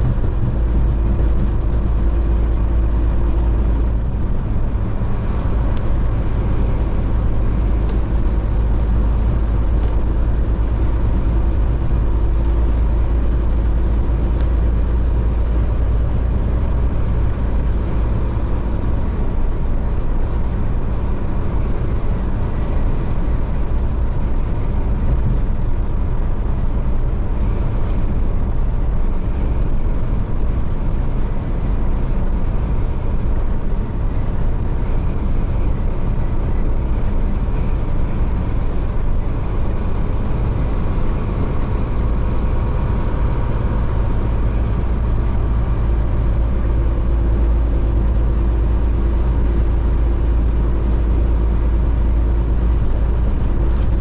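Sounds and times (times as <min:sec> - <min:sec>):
car road noise: 0:00.0 - 0:54.0.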